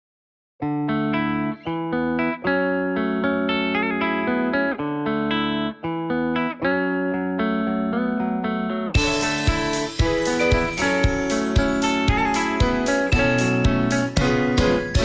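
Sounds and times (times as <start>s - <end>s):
plucked guitar chords: 0.6s - 15.0s.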